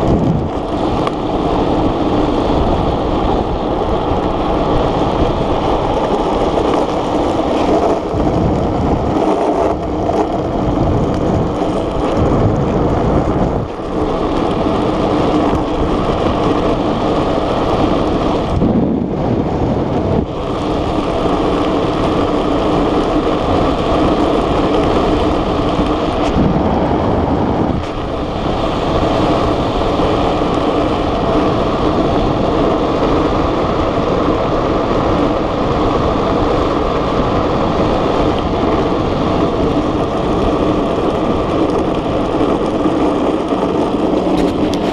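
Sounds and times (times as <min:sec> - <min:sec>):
tyres rolling on rough asphalt: 0:00.0 - 0:44.9
wind rushing over microphone: 0:00.0 - 0:44.9.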